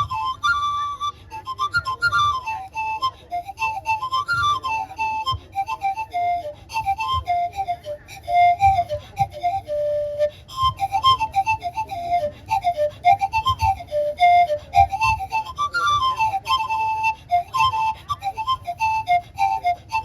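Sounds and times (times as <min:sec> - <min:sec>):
bamboo panpipe melody: 0:00.0 - 0:20.0.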